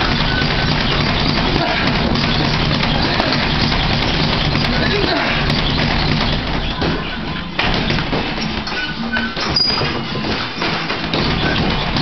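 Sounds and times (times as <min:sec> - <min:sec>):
gloves thudding on punching bag: 0:00.0 - 0:12.0
music playing: 0:00.0 - 0:12.0.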